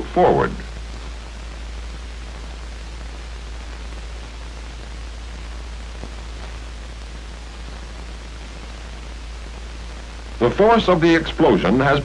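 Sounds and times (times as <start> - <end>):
film soundtrack hiss and hum: 0.0 - 12.0.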